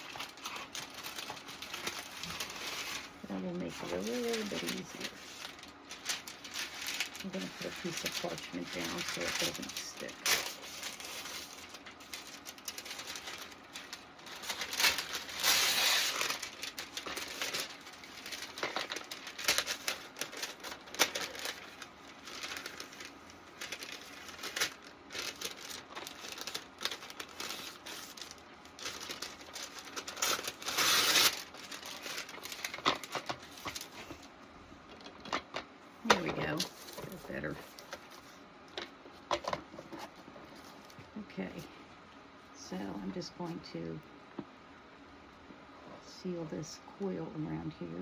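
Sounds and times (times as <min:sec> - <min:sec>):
paper crinkling and rustling: 0:00.0 - 0:34.3, 0:34.9 - 0:41.7.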